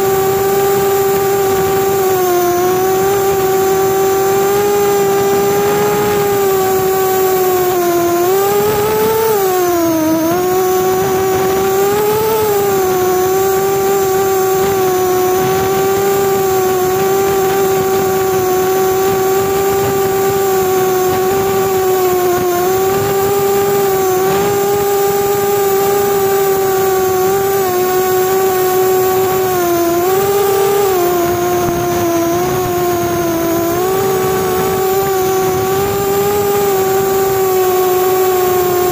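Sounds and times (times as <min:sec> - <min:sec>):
quadcopter motors whining: 0:00.0 - 0:38.9.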